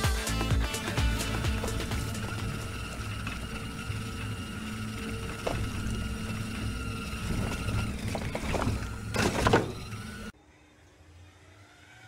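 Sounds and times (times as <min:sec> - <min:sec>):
wheels rumbling on concrete: 0:00.0 - 0:10.4
electric motor whining: 0:00.3 - 0:10.3.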